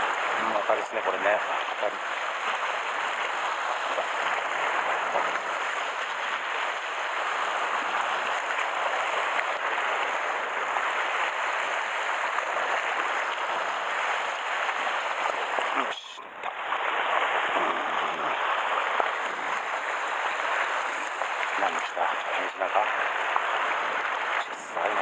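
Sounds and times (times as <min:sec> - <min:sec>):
small waves washing over rocks: 0:00.0 - 0:25.0.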